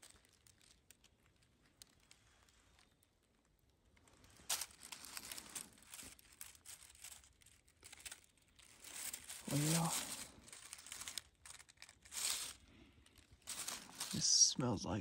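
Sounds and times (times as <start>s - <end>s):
dry leaves crackling and rustling: 0.0s - 14.5s.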